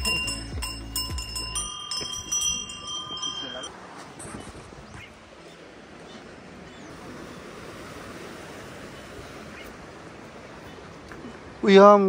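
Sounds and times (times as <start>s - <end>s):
sea surf washing: 1.5s - 12.0s.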